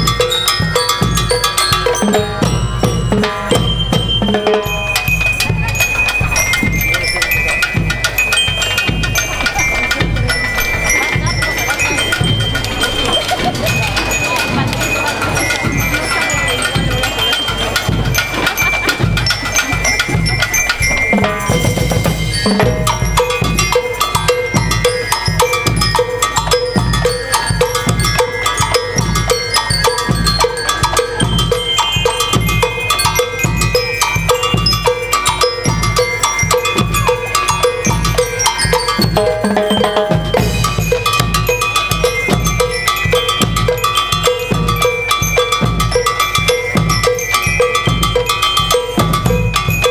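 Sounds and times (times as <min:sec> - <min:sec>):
bass drum and snare march beat: 0:00.0 - 0:49.9
marching band playing: 0:00.0 - 0:49.9.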